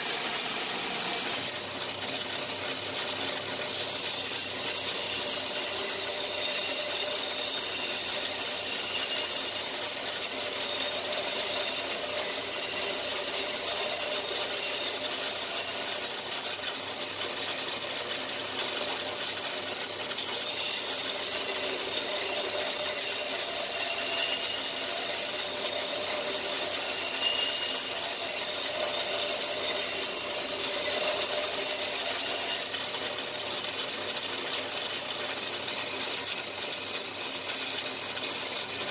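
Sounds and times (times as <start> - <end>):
power tool grinding: 0.0 - 2.6, 3.4 - 17.2, 17.8 - 38.9.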